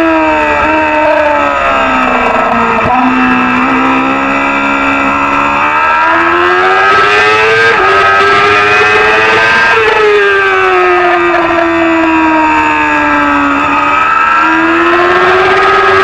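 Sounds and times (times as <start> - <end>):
racing motorcycle engine revving: 0.0 - 16.0.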